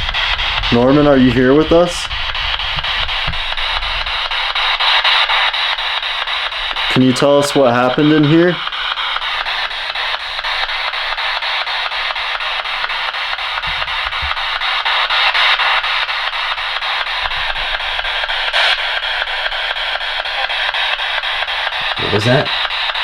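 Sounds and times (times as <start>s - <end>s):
pulsing radio static: 0.0s - 23.0s.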